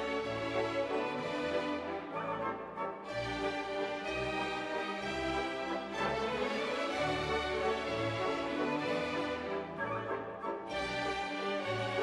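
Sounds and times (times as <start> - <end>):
orchestral music with strings: 0.0 - 12.0.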